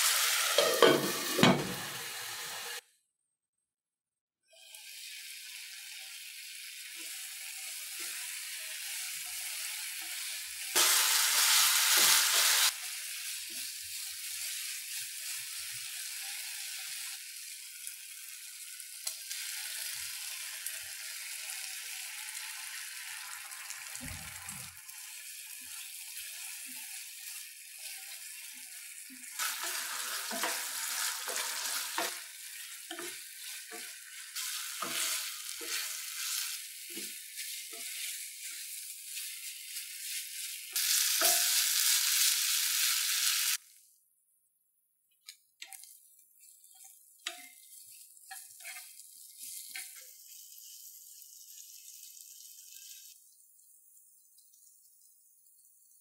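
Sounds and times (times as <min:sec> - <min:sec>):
chicken sizzling in a pan: 0:00.0 - 0:02.8, 0:04.5 - 0:43.9, 0:45.2 - 0:56.0.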